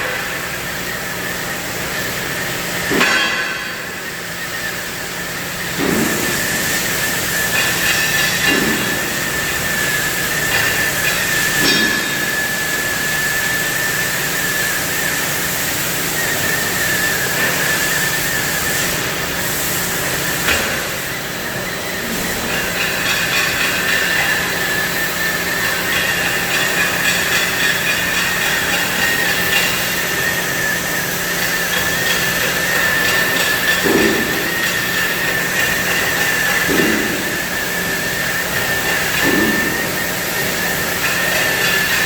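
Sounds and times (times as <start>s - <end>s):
cutting torch hissing: 5.8s - 42.0s.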